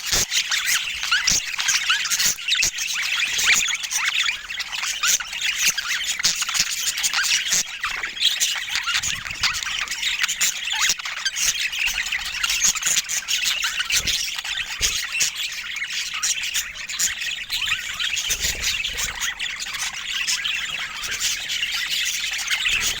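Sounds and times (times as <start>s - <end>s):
budgerigars chattering: 0.0s - 23.0s.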